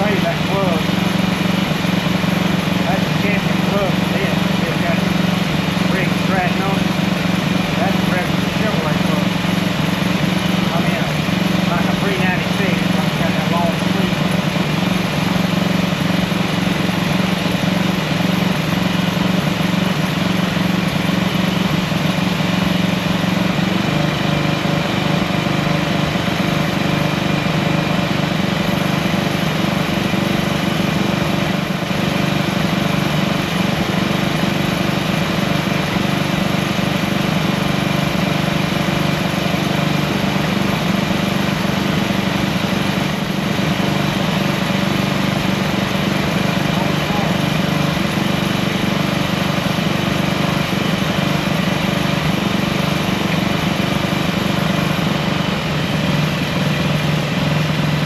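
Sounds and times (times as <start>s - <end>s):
small engine running steadily: 0.0s - 58.0s.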